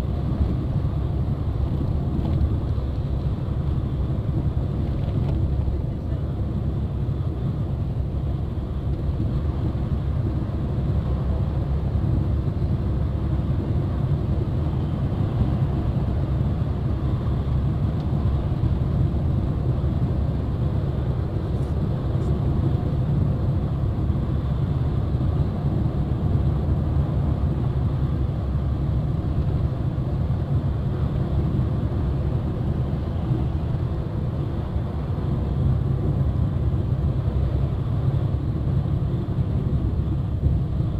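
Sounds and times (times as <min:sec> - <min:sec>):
vehicle engine and tyres rumbling: 0:00.0 - 0:40.9.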